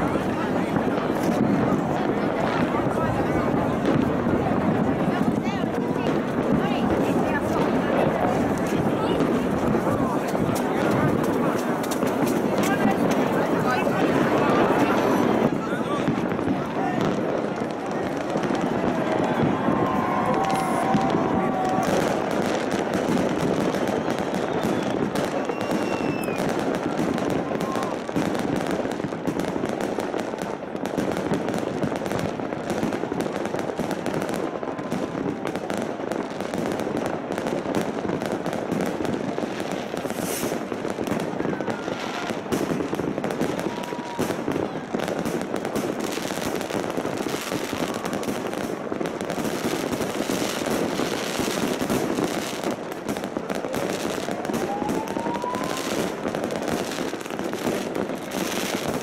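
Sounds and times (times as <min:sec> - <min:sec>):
fireworks bangs and crackling: 0:00.0 - 0:59.0
whistling firework: 0:06.1 - 0:59.0.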